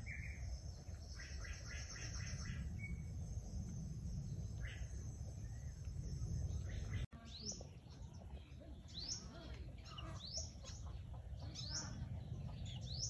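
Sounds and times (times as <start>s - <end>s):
bird chirping: 0.0s - 13.0s
low background rumble: 0.0s - 13.0s.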